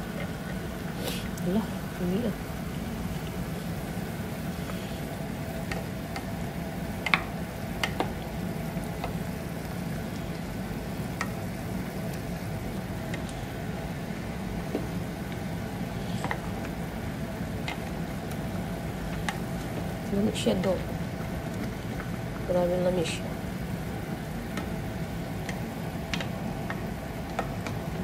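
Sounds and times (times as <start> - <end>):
pot simmering: 0.0 - 28.0
steady hum: 0.0 - 28.0.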